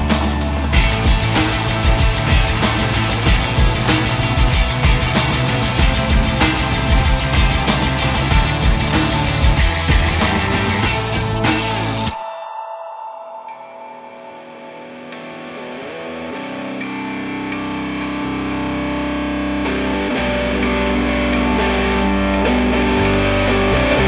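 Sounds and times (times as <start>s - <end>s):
low bass notes: 0.0s - 12.2s, 16.8s - 24.0s
distorted electric guitar music: 0.0s - 24.0s.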